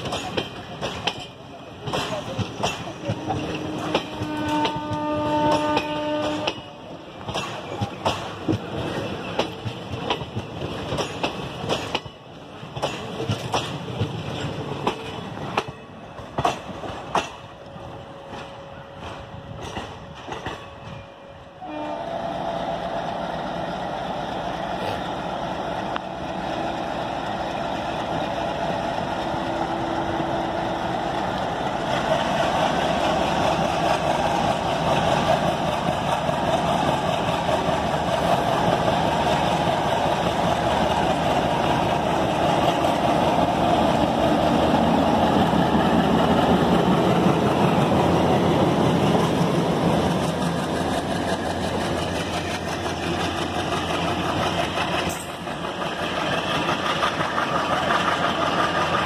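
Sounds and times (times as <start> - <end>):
diesel locomotive engine: 0.0 - 59.0
train rumble: 0.0 - 59.0.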